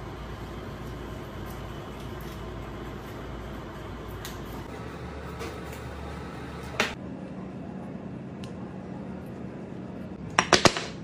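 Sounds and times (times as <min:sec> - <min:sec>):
kitchen hum: 0:00.0 - 0:11.0.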